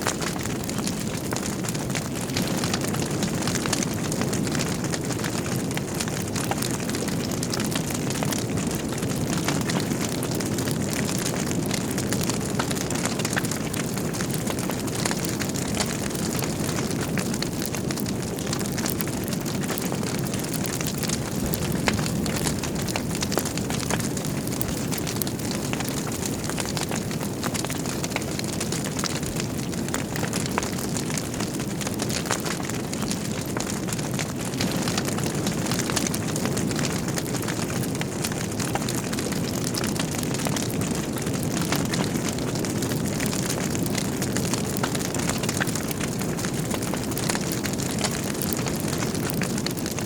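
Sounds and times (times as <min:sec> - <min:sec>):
fire crackles and pops: 0:00.0 - 0:50.0
low rush of flames: 0:00.0 - 0:50.0.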